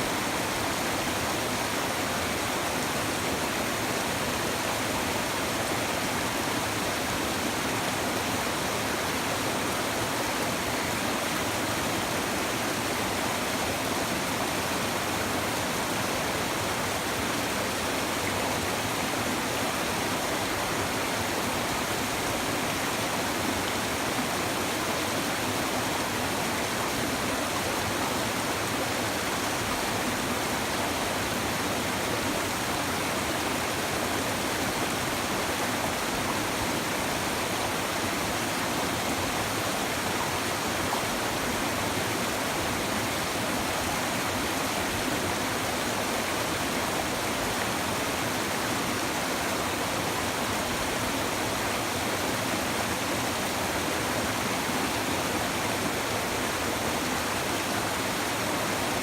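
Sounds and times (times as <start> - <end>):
river babbling over stones: 0.0 - 59.0.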